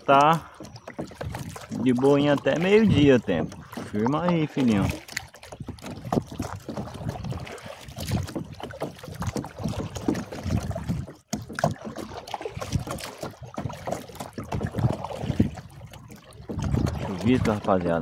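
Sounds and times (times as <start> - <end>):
paddle splashing in water: 0.0 - 18.0.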